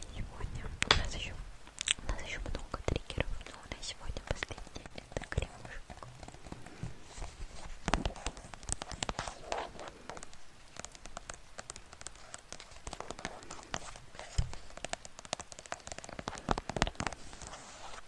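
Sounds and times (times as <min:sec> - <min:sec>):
faint hiss: 0:00.0 - 0:18.0
rapid clicks and taps: 0:00.7 - 0:18.0.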